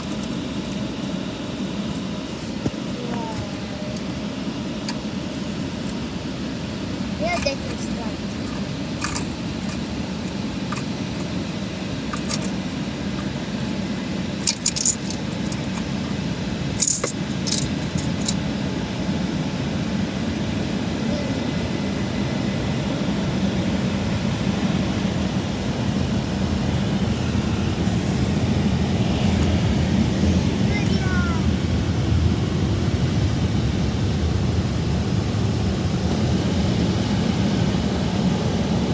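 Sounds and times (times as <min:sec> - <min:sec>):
car wash low rumble: 0:00.0 - 0:38.9.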